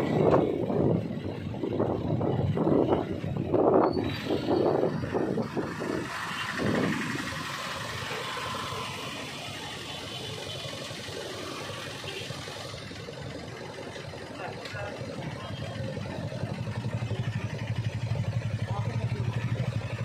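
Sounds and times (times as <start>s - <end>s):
motorbike engine: 0.0s - 20.0s
motorbike engine idling: 0.0s - 20.0s
traffic hum: 0.0s - 20.0s.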